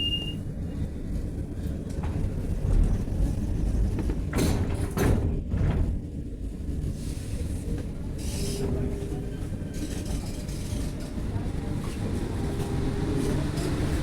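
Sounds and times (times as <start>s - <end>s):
metro car low rumble: 0.0s - 14.0s.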